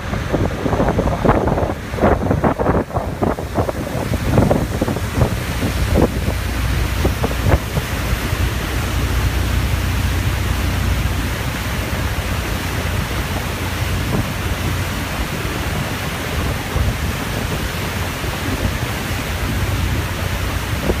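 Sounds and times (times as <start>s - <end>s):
low rumble: 0.0s - 17.4s
rush of boat wake: 0.0s - 21.0s
wind buffeting microphone: 0.0s - 21.0s.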